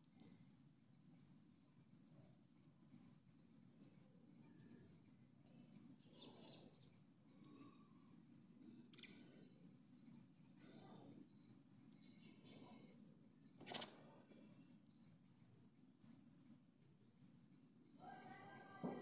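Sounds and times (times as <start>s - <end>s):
insect chirping: 0.0s - 19.0s
bird chirps: 0.2s - 19.0s.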